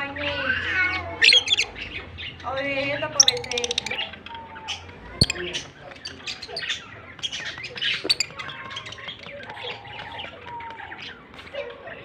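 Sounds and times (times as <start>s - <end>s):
lovebirds chirping and squawking: 0.9s - 11.5s.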